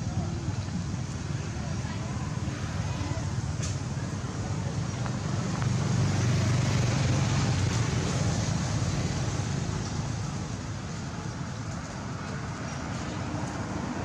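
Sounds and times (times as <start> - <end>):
road vehicle passing: 0.0 - 14.0.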